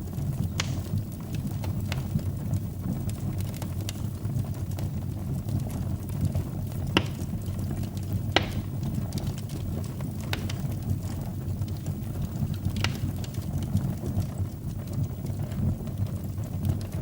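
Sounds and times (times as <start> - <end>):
fire crackling pops: 0.0 - 17.0
low rumble of flames: 0.0 - 17.0.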